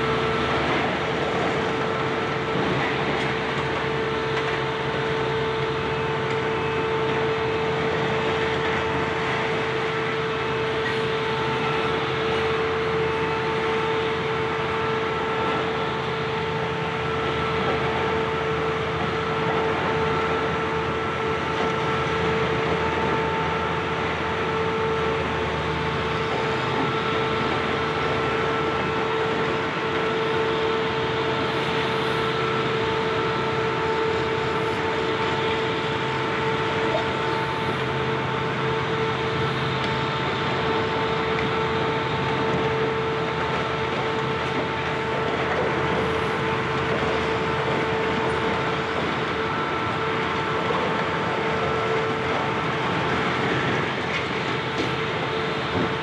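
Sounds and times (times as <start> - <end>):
constant machine whine: 0.0 - 56.0
excavator engine running: 0.0 - 56.0.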